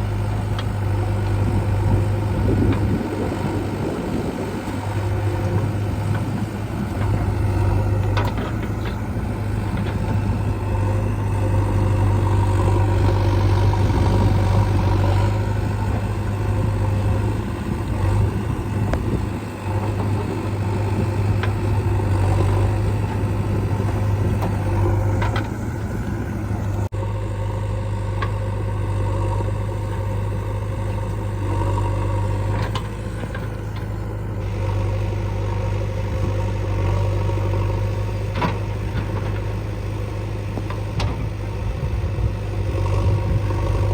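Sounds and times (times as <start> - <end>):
diesel engines droning: 0.0 - 43.9.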